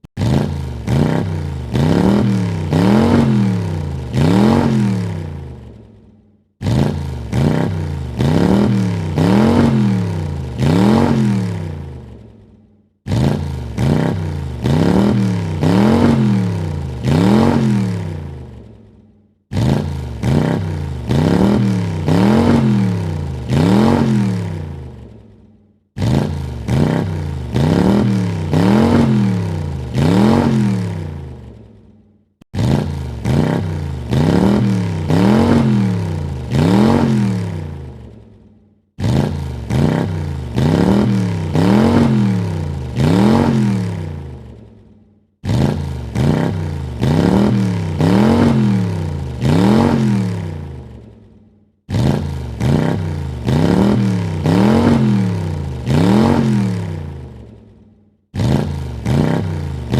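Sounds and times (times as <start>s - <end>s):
car engine revving: 0.0s - 5.8s, 6.6s - 12.3s, 13.0s - 18.7s, 19.5s - 25.3s, 26.0s - 31.7s, 32.5s - 38.2s, 39.0s - 44.7s, 45.4s - 51.1s, 51.9s - 57.6s, 58.4s - 59.9s.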